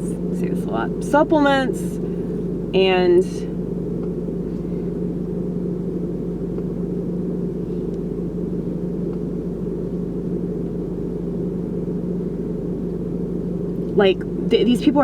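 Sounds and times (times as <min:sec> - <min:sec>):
constant low hum: 0:00.0 - 0:15.0
steady low rumble: 0:00.0 - 0:15.0.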